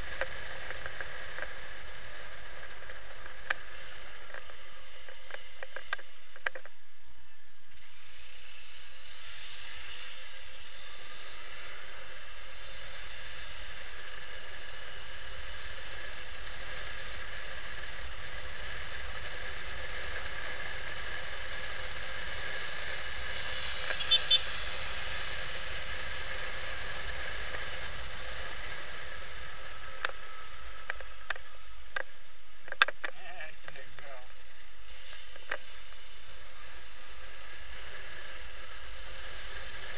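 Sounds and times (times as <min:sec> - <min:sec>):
motorcycle riding noise: 0:00.0 - 0:39.9.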